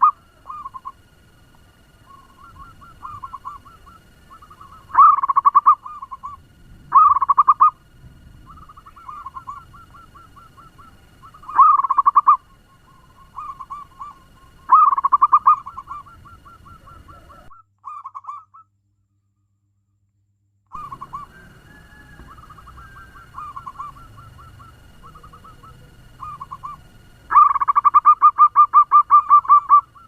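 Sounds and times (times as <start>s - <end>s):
doves cooing: 0.0s - 18.6s, 20.8s - 30.0s.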